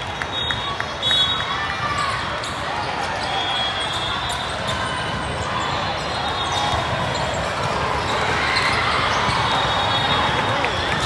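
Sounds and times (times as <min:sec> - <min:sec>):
murmur of spectators' voices: 0:00.0 - 0:11.0.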